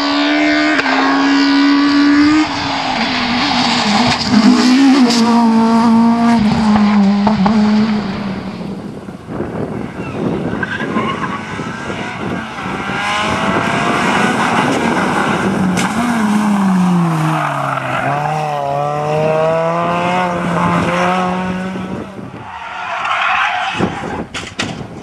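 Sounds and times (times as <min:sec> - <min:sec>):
rally car engine high revs: 0:00.0 - 0:09.0, 0:10.2 - 0:22.1.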